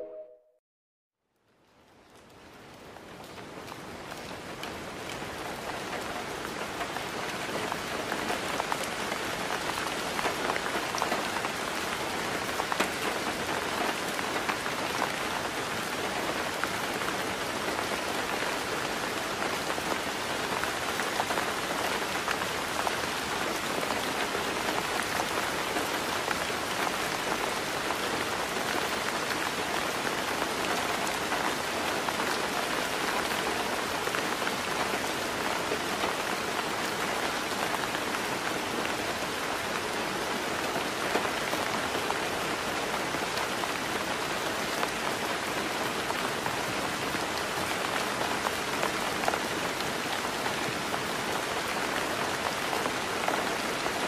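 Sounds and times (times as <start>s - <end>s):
heavy rain falling: 1.4s - 54.0s.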